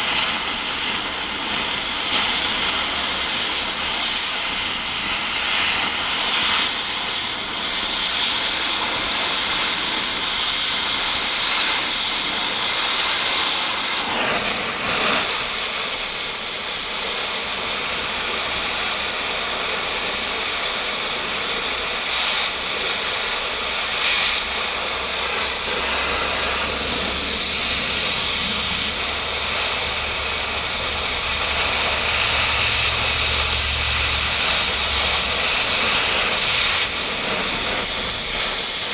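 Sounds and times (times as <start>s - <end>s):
cutting torch hissing: 0.0s - 38.9s.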